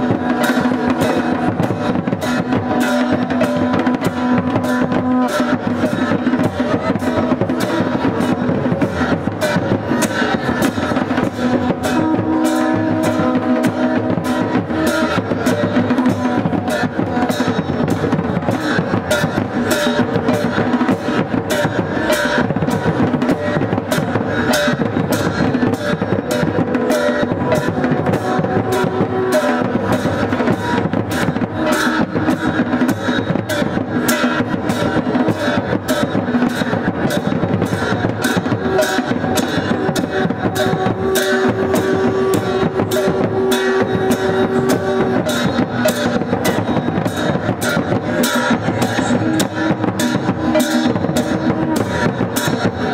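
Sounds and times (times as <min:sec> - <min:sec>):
large drums beating: 0:00.0 - 0:52.9.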